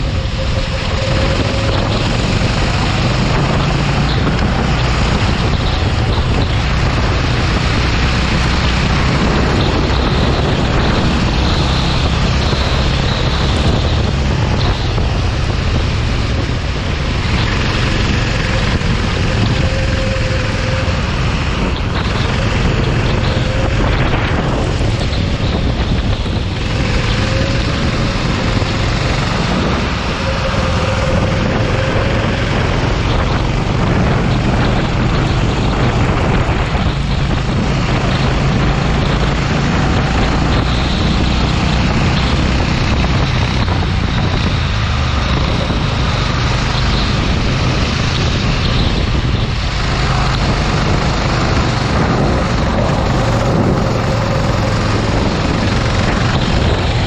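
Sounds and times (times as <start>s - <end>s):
go-kart engine droning: 0.0s - 57.0s
rushing noise: 0.0s - 57.0s.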